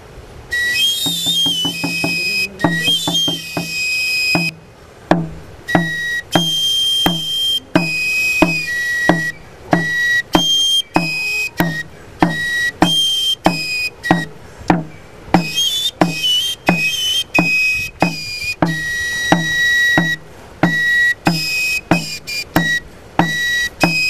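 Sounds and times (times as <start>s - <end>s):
high-pitched flute melody: 0.5s - 4.6s, 5.6s - 24.0s
small drum beats: 0.8s - 24.0s.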